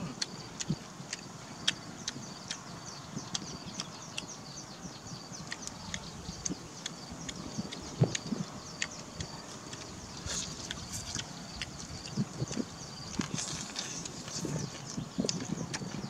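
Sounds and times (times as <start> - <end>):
small animals chirping: 0.0 - 16.0.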